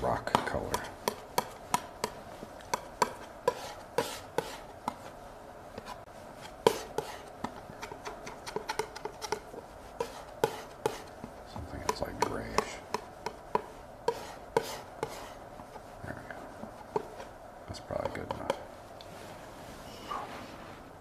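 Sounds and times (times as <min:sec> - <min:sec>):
palette knife tapping and scraping: 0:00.2 - 0:05.1, 0:05.8 - 0:15.8, 0:16.6 - 0:18.7.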